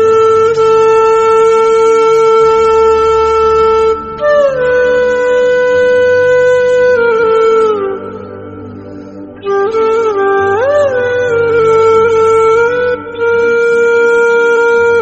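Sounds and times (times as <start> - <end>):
reedy wind instrument music: 0.0 - 15.0.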